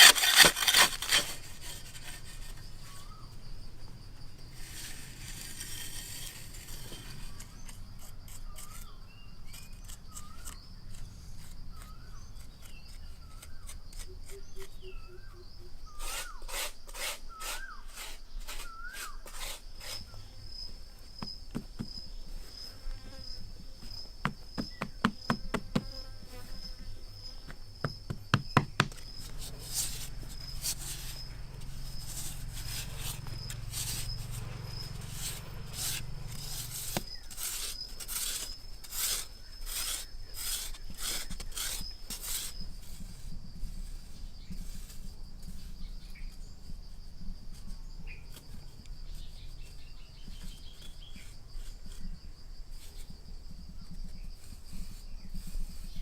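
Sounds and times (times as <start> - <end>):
insect chirring: 0.0 - 56.0.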